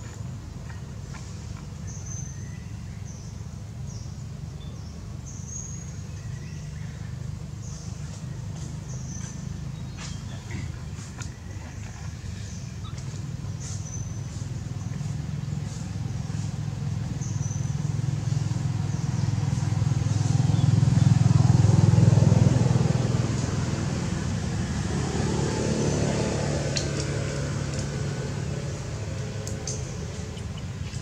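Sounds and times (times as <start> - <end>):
vehicle engine passing by: 5.3 - 31.0.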